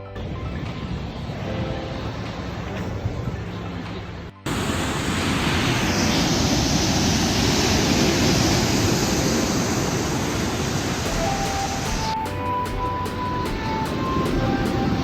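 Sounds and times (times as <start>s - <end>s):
ocean surf washing ashore: 0.2s - 15.0s.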